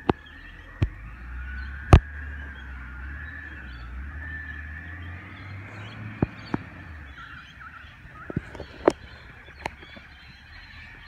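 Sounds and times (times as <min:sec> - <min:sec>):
distant garbage truck diesel engine: 0:00.0 - 0:11.0.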